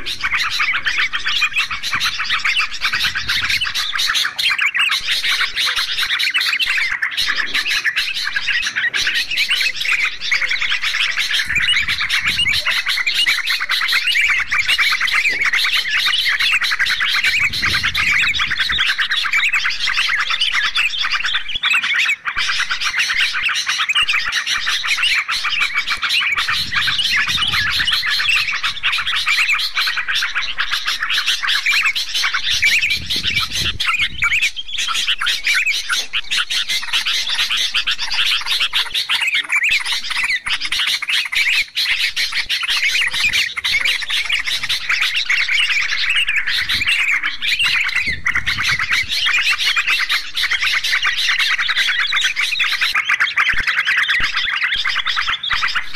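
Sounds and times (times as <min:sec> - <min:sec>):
bulbuls chirping: 0:00.0 - 0:55.9.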